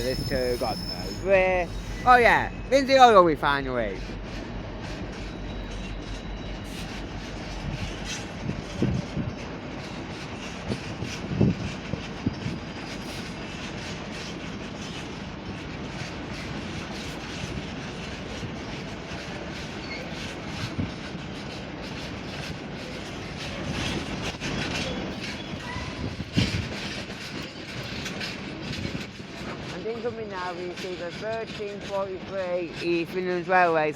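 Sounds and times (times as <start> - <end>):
train wheels clattering over rail joints: 4.0 - 33.9.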